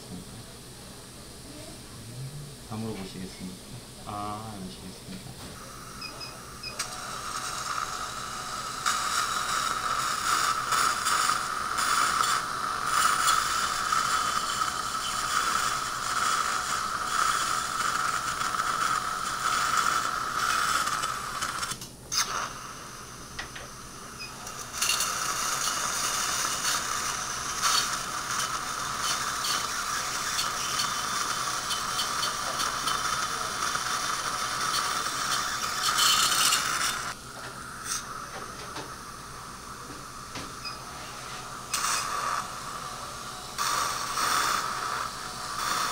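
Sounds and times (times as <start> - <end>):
saline irrigation and suction hiss: 6.8 - 23.7, 24.4 - 45.9.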